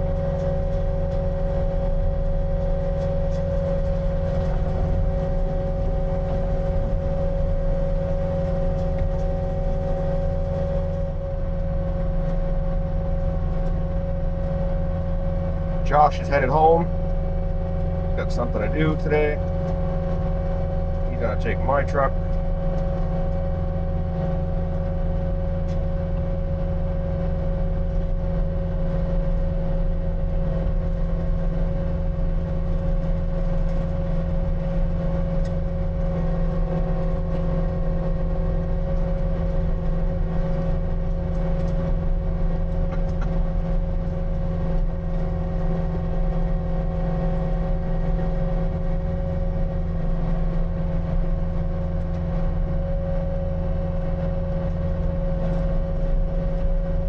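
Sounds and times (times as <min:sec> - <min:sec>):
high whine: 0:00.0 - 0:57.0
skid steer engine running: 0:00.0 - 0:57.0.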